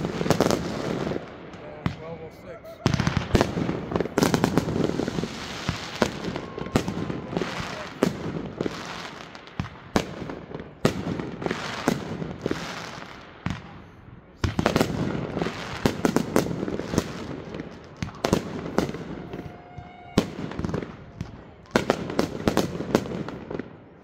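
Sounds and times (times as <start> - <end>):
firework bangs: 0.0 - 23.7
fireworks crackling and fizzing: 0.0 - 24.0.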